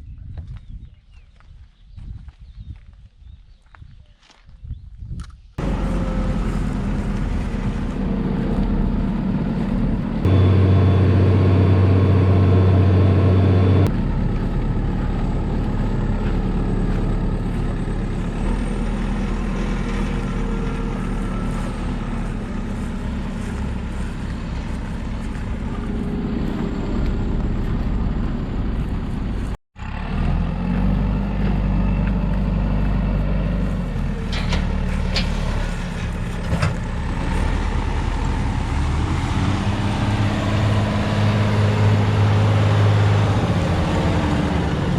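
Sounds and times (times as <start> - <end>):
deep loud drone: 5.6 - 44.9
farm machinery diesel engines: 5.6 - 44.9.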